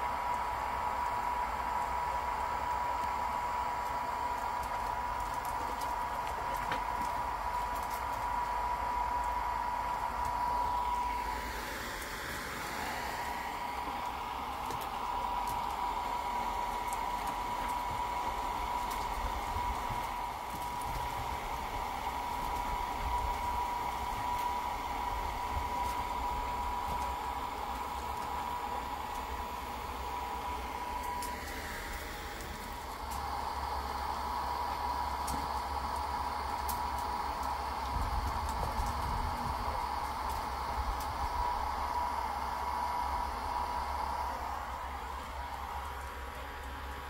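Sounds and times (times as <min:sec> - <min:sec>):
fan motor whirring with whine: 0:00.0 - 0:47.0.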